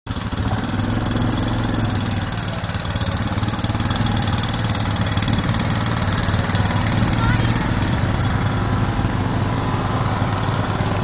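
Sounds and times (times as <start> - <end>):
lawnmower engine chugging: 0.1 - 11.0.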